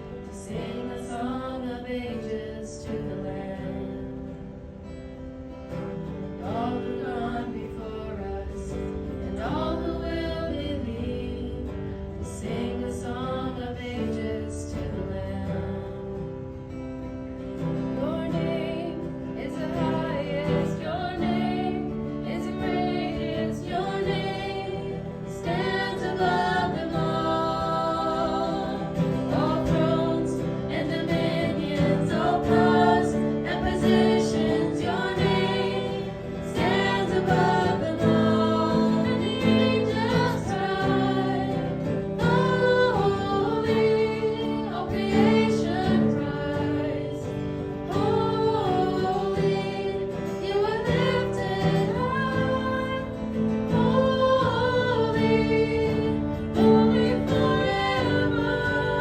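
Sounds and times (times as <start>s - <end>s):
voices singing worship song: 0.0s - 59.0s.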